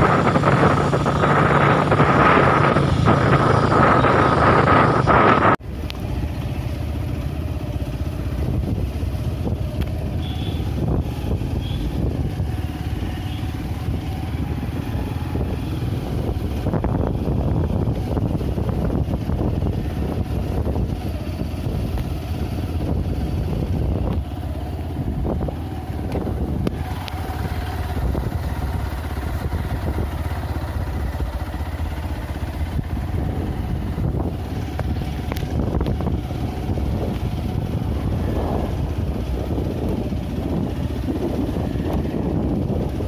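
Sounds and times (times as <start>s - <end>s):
wind rumbling on microphone: 0.0s - 5.7s, 8.2s - 43.0s
motorcycle engine running: 0.0s - 43.0s.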